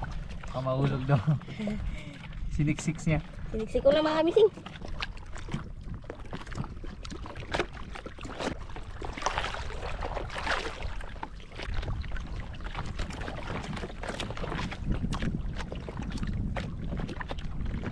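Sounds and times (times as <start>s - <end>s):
waves splashing on boat hull: 0.0s - 17.9s.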